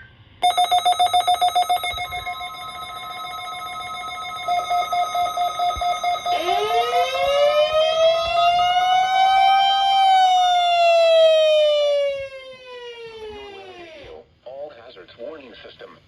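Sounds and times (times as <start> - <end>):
multi-tone alarm pulsing: 0.4 - 14.0
siren winding up and down: 0.4 - 14.2.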